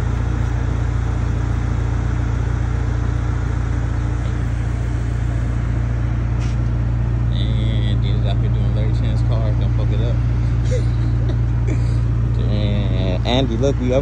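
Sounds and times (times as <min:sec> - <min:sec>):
low motor drone: 0:00.0 - 0:14.0.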